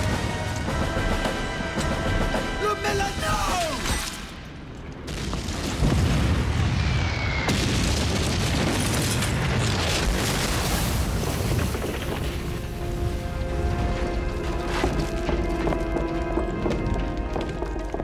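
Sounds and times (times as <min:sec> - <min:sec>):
explosions and battle noise: 0:00.0 - 0:18.0.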